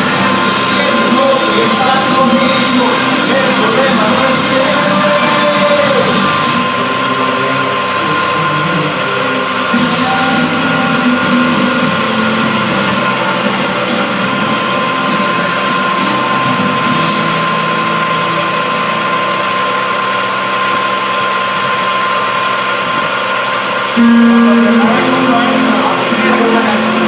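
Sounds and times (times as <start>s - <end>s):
constant high tone: 0.0s - 27.0s
milling machine cutting metal: 0.0s - 27.0s.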